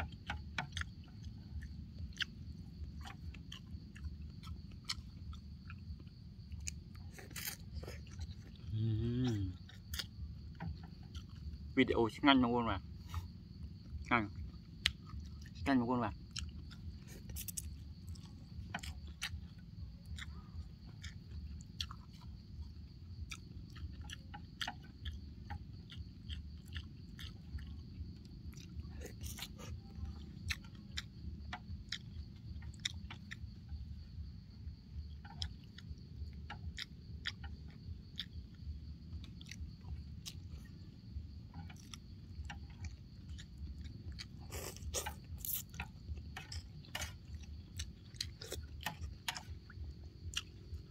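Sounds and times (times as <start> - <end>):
wet chewing: 0.0 - 50.9.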